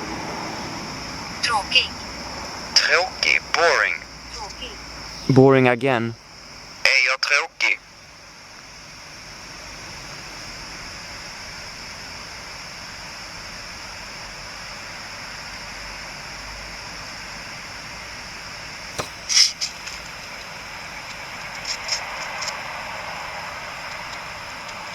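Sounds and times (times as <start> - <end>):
steady hiss: 0.0 - 24.9.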